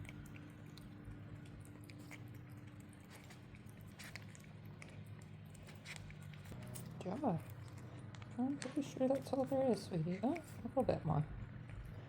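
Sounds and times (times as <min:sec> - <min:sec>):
kitten licking and chewing: 0:00.0 - 0:12.0.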